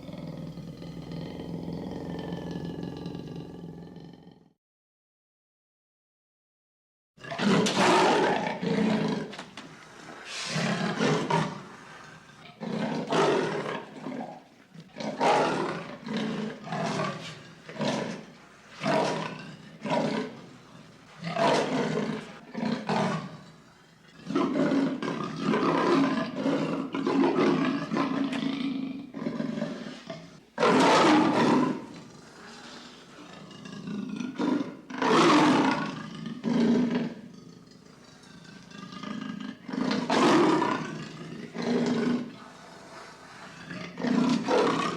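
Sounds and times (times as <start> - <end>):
lion roaring: 0.0 - 4.5, 7.2 - 44.9.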